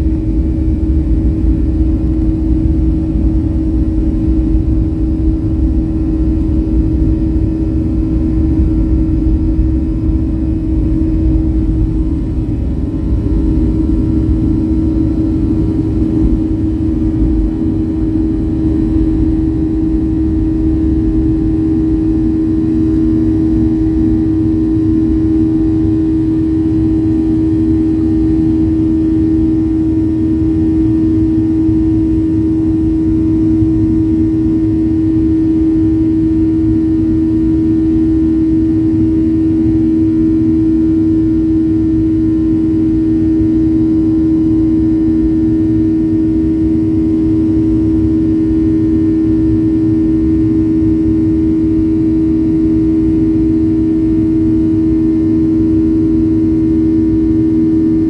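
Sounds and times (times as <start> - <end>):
jet engines droning in cabin: 0.0 - 58.0.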